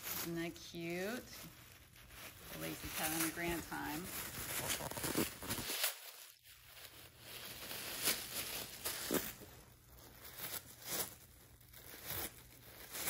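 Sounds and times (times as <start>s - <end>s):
tissue paper crinkling and tearing: 0.0s - 13.0s.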